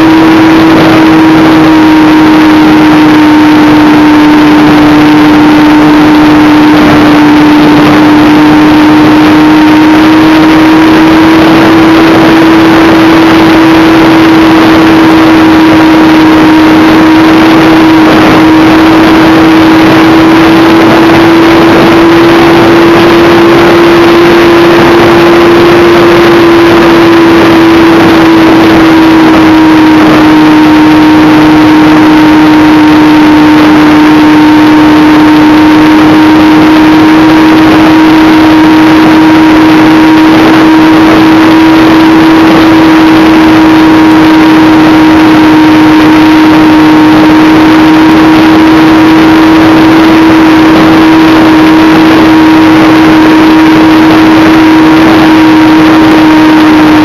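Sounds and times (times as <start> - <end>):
model aircraft motor whine: 0.0 - 57.0
rushing wind noise: 0.0 - 57.0.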